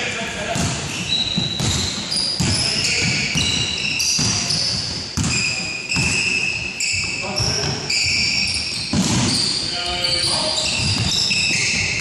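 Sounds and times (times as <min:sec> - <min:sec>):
basketball dribbling thuds: 0:00.4 - 0:12.0
shoes squeaking on hardwood: 0:00.8 - 0:12.0.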